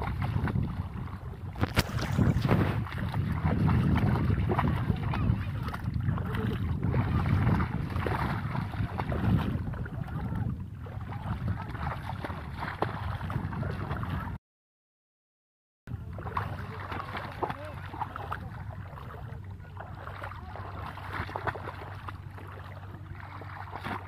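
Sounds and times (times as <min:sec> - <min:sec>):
feet wading through water: 0:00.0 - 0:14.4, 0:15.9 - 0:24.0
shallow water splashing: 0:00.0 - 0:14.4, 0:15.9 - 0:24.0
wind rumbling on microphone: 0:00.0 - 0:14.4, 0:15.9 - 0:24.0.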